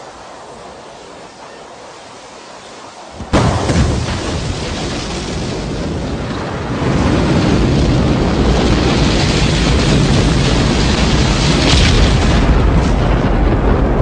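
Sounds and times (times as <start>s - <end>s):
rocket engines deep rumble: 0.0s - 14.0s.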